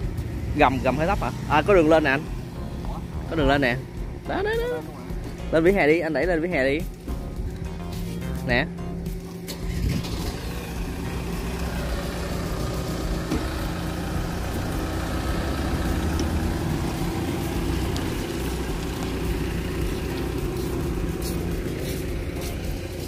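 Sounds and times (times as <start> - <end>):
minibus engine idling: 0.0 - 23.0.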